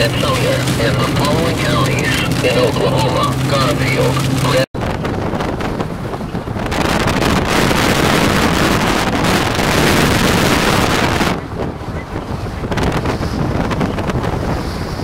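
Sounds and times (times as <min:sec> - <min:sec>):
heavy rain and wind on car: 0:00.0 - 0:15.0.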